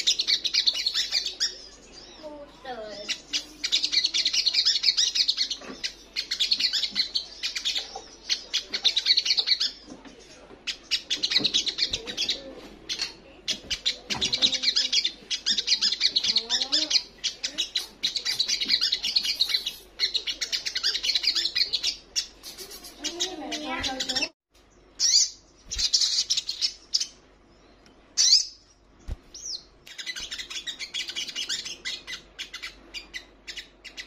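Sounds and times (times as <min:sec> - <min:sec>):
bird twittering song: 0:00.0 - 0:34.0.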